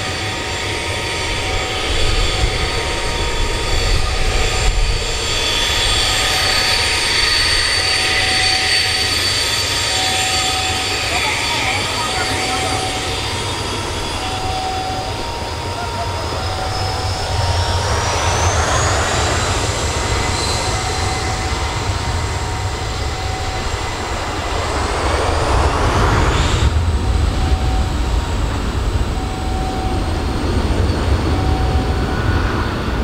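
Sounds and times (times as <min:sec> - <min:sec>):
hissing swell: 0:00.0 - 0:33.0
jet engines whining while taxiing: 0:00.0 - 0:33.0.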